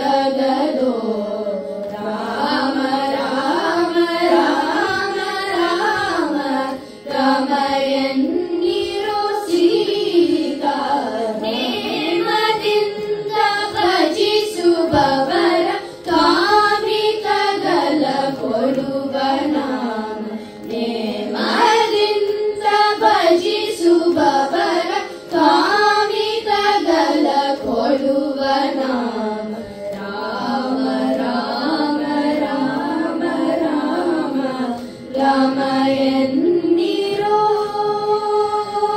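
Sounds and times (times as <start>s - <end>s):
children singing: 0.0s - 38.9s.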